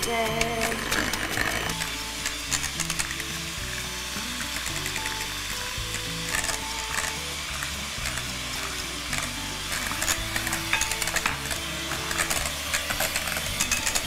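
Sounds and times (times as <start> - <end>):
background music: 0.0 - 14.0
beaters clicking against bowl: 0.0 - 14.0
electric hand mixer running: 0.0 - 14.0.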